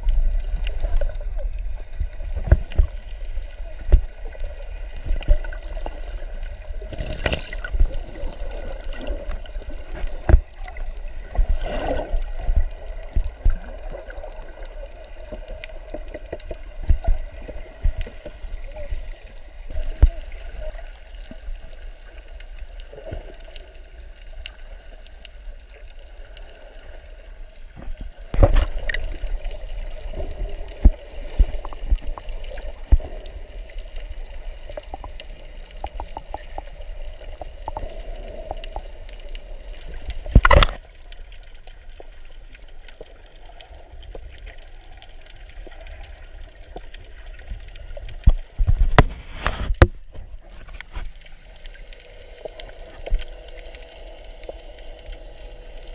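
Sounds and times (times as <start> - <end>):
muffled underwater rumble: 0.0 - 55.9.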